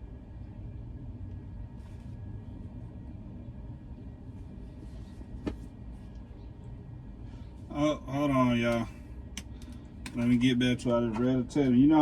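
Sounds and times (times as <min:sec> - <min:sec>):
faint whine: 0:00.0 - 0:12.0
low background rumble: 0:00.0 - 0:12.0.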